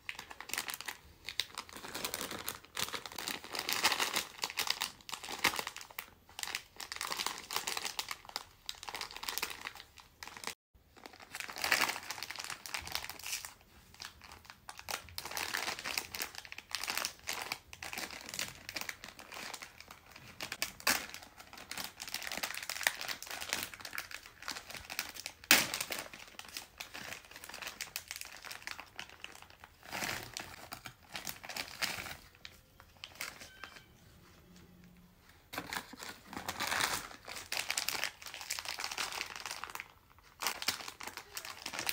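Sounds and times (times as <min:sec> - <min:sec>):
candy wrappers crinkling: 0:00.0 - 0:33.9, 0:35.5 - 0:41.9.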